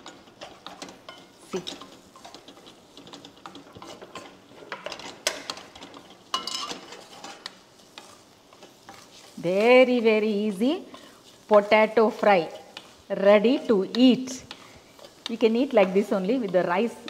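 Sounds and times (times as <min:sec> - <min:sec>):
spatula scraping potatoes in pan: 0:00.0 - 0:17.0.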